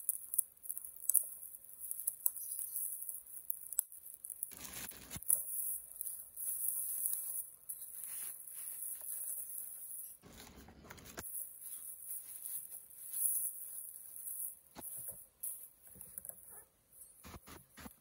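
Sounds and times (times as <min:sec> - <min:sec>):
plastic mailer crinkling: 0:00.0 - 0:16.6.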